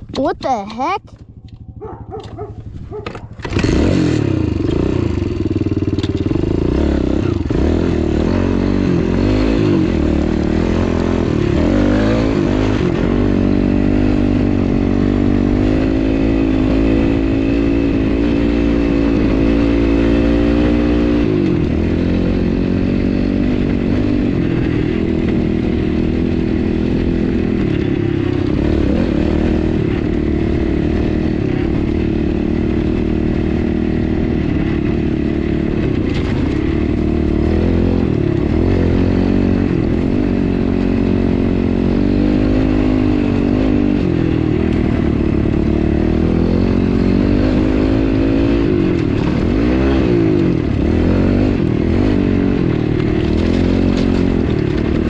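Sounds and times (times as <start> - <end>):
dirt bike engine revving: 1.1 - 55.0.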